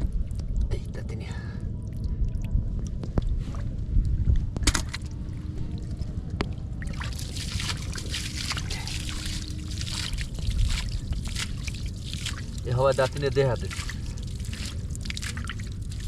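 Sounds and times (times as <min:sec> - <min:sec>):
water splashing and sloshing: 0:00.0 - 0:00.9, 0:01.6 - 0:16.0
steady low rumble: 0:00.0 - 0:16.0.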